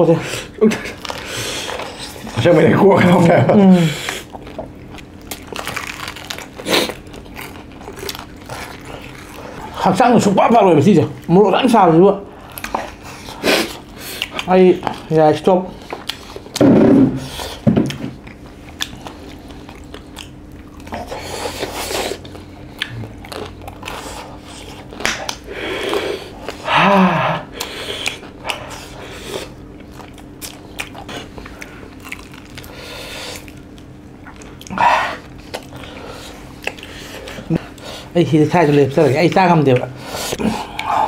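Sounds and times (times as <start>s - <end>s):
chewing and crunching food: 0.1s - 41.0s.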